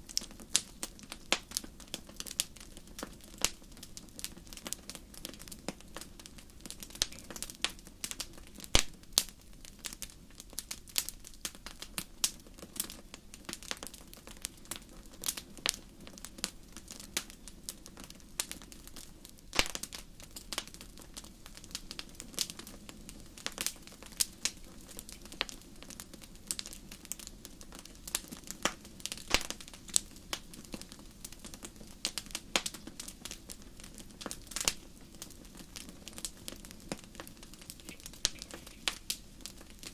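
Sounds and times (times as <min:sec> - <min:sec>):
low steady hiss: 0:00.0 - 0:39.9
wood fire crackling and popping: 0:00.0 - 0:39.9.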